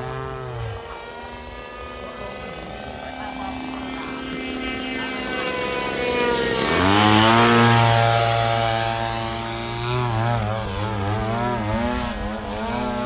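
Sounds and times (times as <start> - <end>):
model airplane engine: 0.0 - 13.0.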